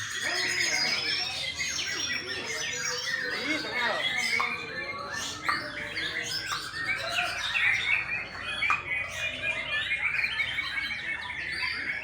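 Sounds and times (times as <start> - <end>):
songbirds whistling and chirping: 0.0 - 12.0.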